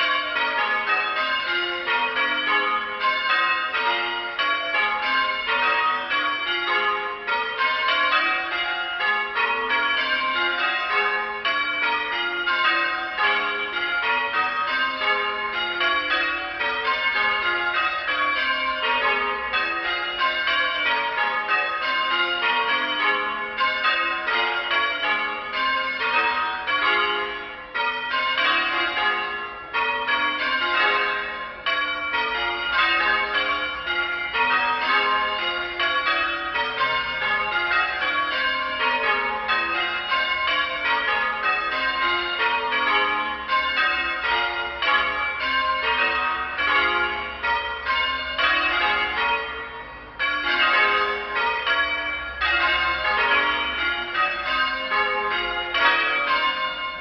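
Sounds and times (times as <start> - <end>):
church bells change ringing: 0.0 - 57.0.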